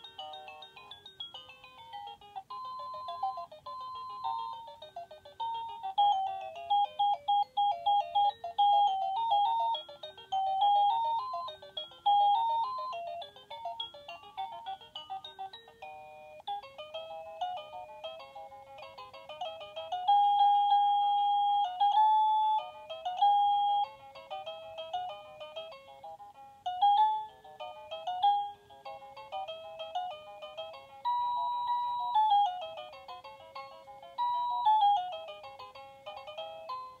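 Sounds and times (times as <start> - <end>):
toy playing electronic beeping tune: 0.0 - 37.0.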